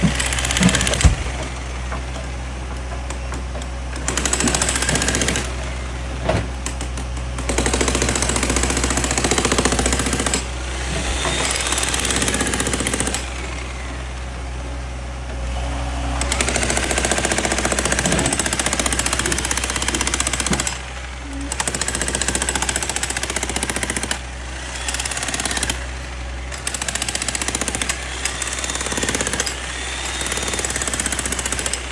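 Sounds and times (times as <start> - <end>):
hydraulic breaker pounding concrete: 0.0 - 14.6, 15.2 - 31.9
diesel engine running: 0.0 - 31.9.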